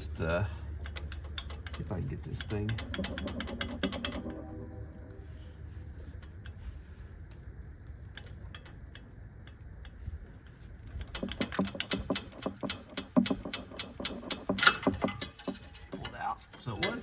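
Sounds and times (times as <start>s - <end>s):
metal clicking and rattling: 0.0s - 5.1s, 7.9s - 17.0s.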